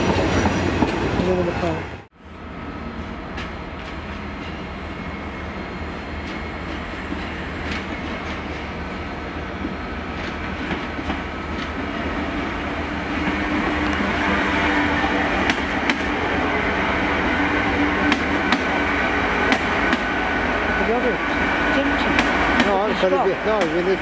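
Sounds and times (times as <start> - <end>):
train rumbling slowly: 0.0 - 24.0.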